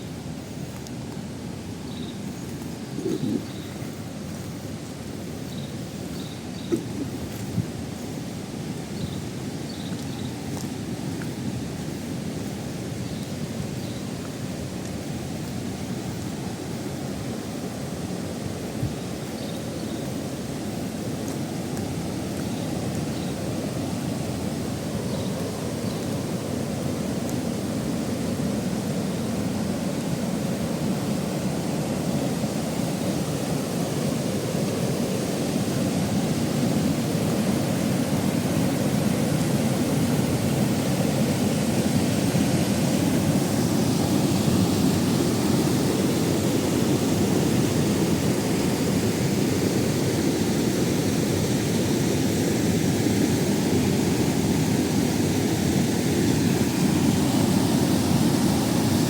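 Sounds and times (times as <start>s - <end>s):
waterfall rushing: 1.0s - 59.0s.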